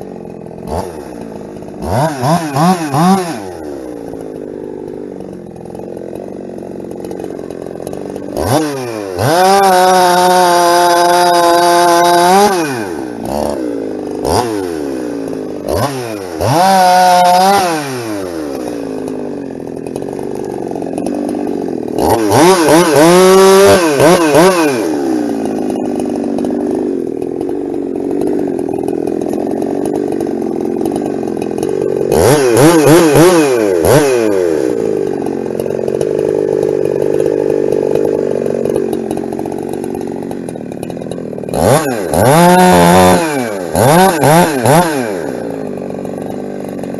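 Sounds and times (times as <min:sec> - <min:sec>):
chainsaw revving and cutting wood: 0:00.0 - 0:46.9.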